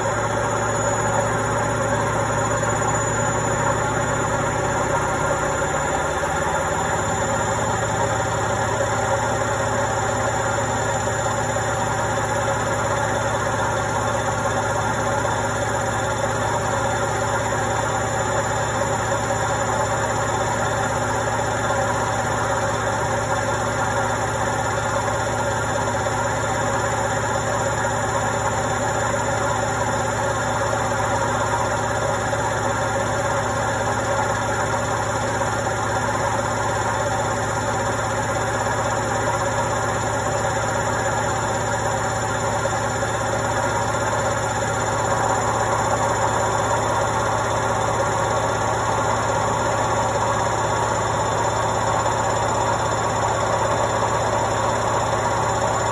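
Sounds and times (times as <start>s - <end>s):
washing machine hum and whir: 0.0s - 55.9s.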